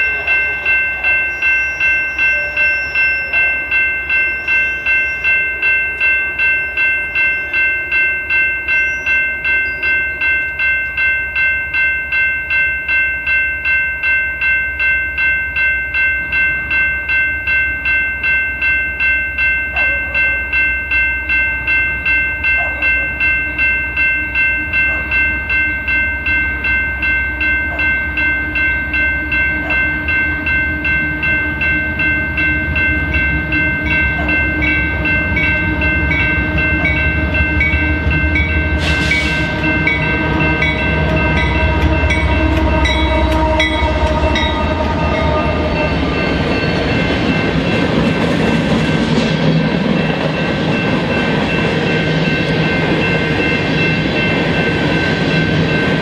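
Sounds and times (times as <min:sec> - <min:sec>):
railroad crossing bell ringing: 0:00.0 - 0:56.0
train locomotive rumble: 0:00.0 - 0:56.0.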